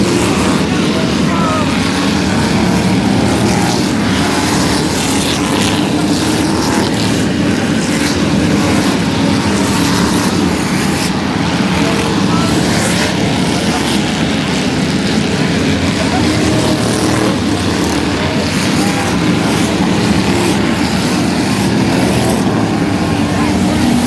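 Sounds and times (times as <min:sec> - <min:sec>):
race car engines running: 0:00.0 - 0:24.0.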